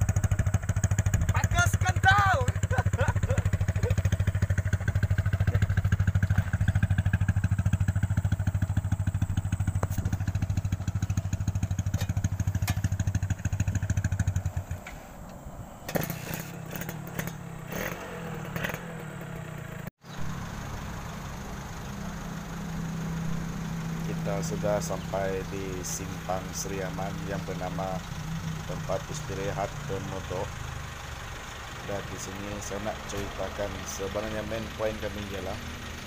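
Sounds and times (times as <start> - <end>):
engine hum: 0.0 - 36.0
motorcycle engine idling: 0.0 - 36.0.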